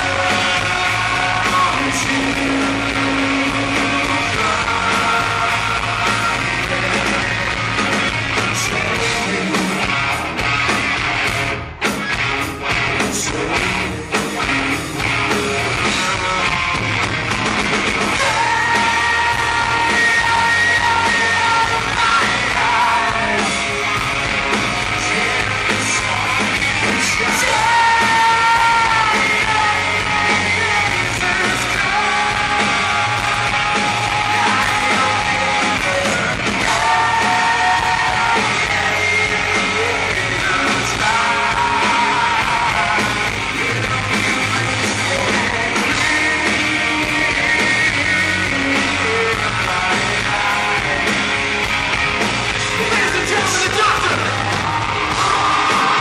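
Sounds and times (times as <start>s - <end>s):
man singing: 0.0s - 10.4s, 13.0s - 16.9s, 18.0s - 51.7s, 52.6s - 56.0s
live rock band: 0.0s - 56.0s.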